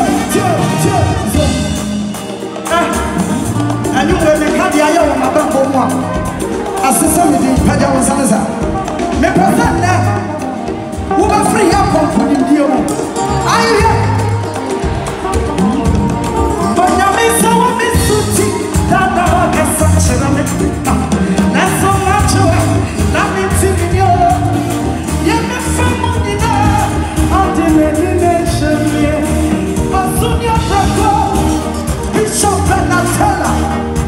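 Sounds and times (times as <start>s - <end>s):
bass guitar: 0.0s - 34.0s
drums: 0.0s - 34.0s
keyboards: 0.0s - 34.0s.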